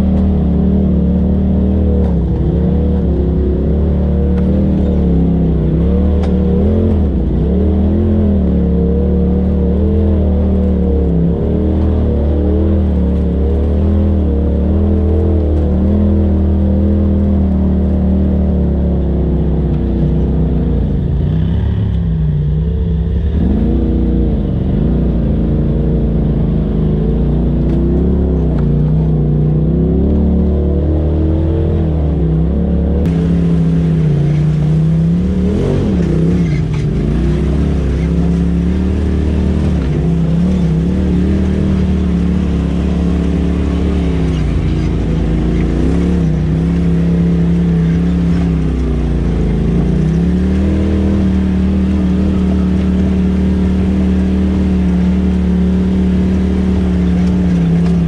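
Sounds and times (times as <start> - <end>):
off-road vehicle engine: 0.0 - 58.0.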